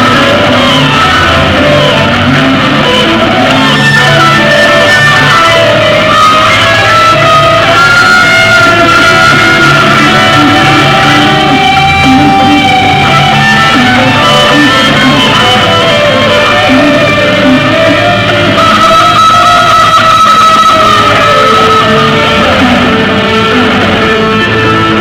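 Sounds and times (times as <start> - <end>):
rock guitar music: 0.0 - 25.0.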